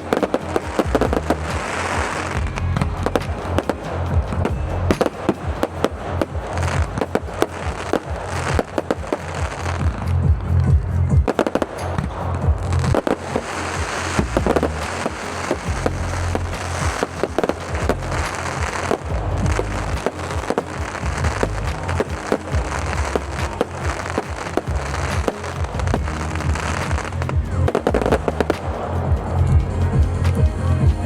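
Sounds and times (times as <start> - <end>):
fireworks bangs and crackles: 0.0 - 30.6
music with heavy bass: 0.0 - 31.0.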